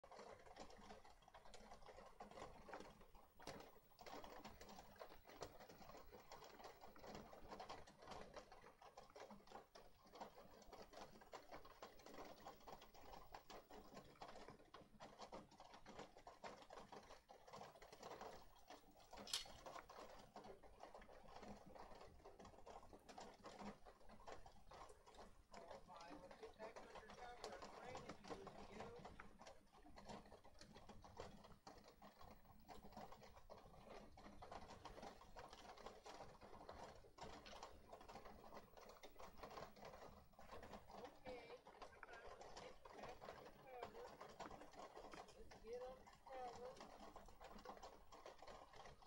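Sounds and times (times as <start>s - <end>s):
rain on a metal roof: 0.0s - 49.0s.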